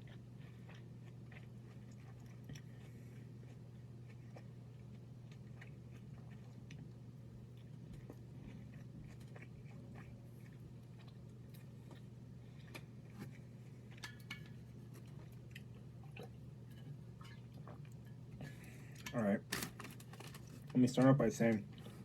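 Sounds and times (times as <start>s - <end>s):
chewing crispy food: 0.0s - 22.0s
low room hum: 0.0s - 22.0s.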